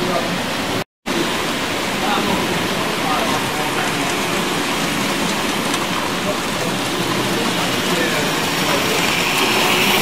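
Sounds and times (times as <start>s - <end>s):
model trains running on track: 0.0s - 10.0s.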